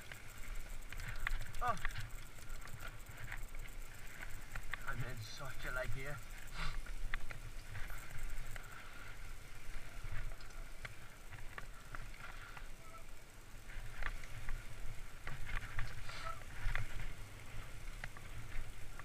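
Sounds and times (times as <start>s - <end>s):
bike clicks and rattles: 0.0s - 19.0s
tyres hissing on dirt: 0.0s - 19.0s.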